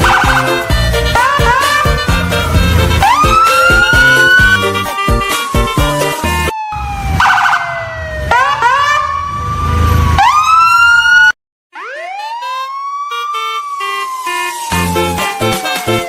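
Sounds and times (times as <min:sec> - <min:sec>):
siren-like wailing tones: 0:00.0 - 0:16.0.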